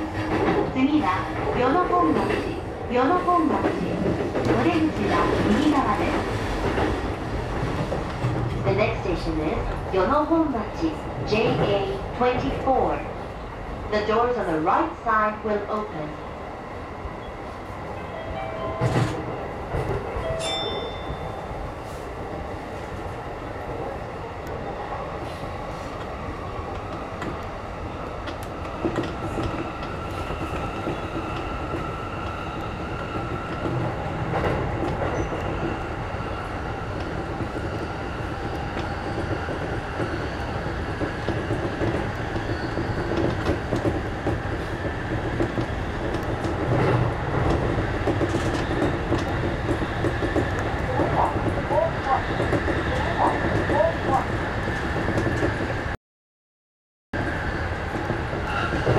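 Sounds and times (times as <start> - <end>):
train wheels rumbling on rails: 0.0 - 20.4, 21.0 - 56.0, 57.2 - 58.9.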